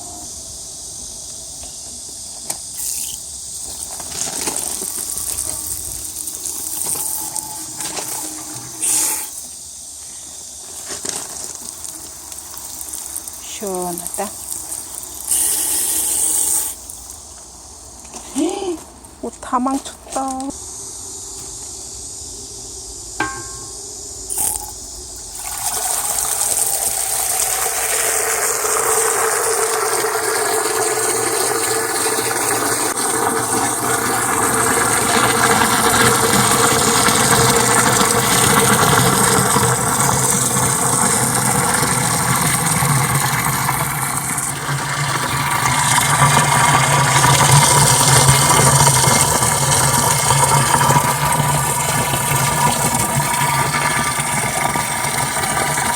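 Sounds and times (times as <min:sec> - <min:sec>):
water pouring into a crock: 0:02.8 - 0:09.6, 0:10.7 - 0:17.3, 0:24.3 - 0:55.9.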